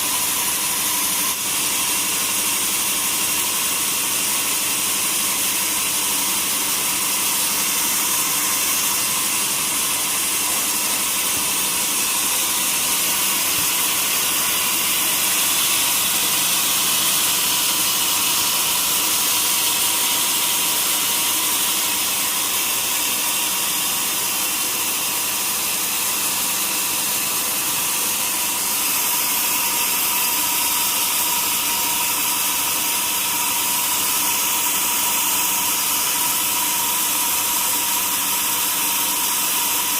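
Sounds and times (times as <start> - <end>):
sawmill saw hissing: 0.0 - 39.9.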